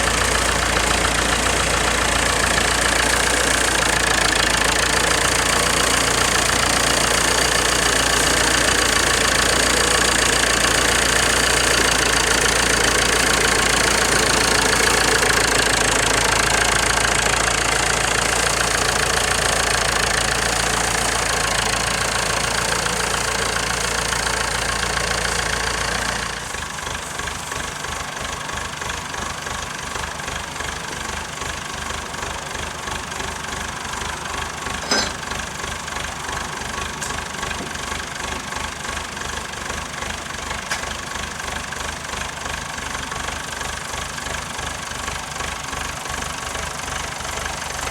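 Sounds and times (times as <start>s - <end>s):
engine running: 0.0s - 47.9s.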